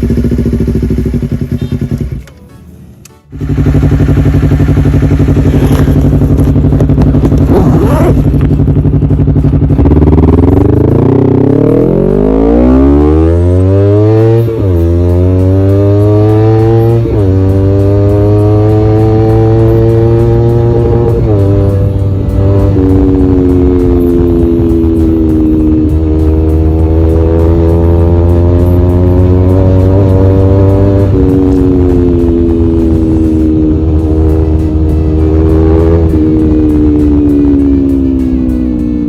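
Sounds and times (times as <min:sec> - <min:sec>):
motorcycle engine accelerating: 0:00.0 - 0:02.3, 0:03.3 - 0:39.0.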